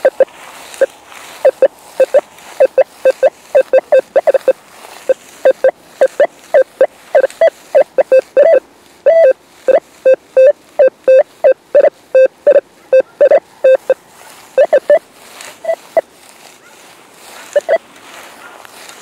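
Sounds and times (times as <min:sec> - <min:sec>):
metal detector beeps: 0:00.0 - 0:14.0, 0:14.6 - 0:16.1, 0:17.5 - 0:17.8.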